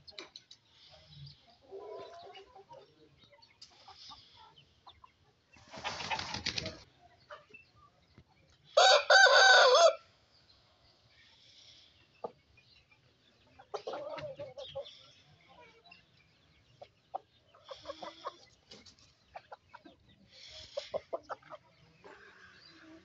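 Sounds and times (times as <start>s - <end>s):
chickens clucking: 0.0s - 9.5s, 10.6s - 23.0s.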